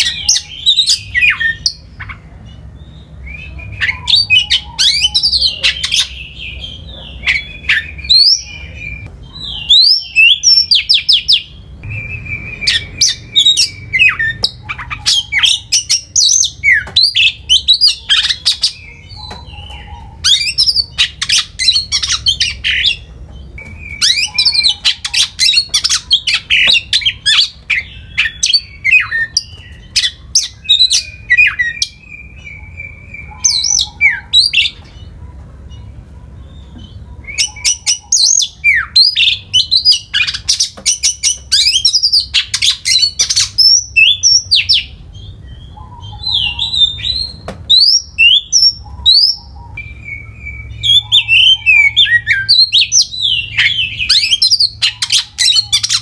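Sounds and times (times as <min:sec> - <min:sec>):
songbird whistles and trills: 0:00.0 - 0:35.1, 0:35.7 - 0:56.0.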